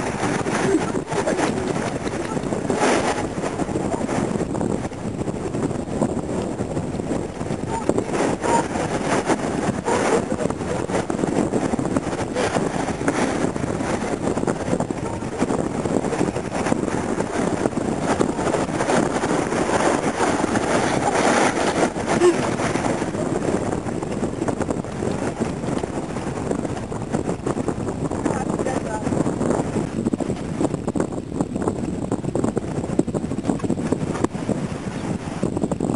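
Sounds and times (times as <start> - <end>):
ocean surf washing ashore: 0.0 - 35.9
wind buffeting microphone: 0.0 - 35.9.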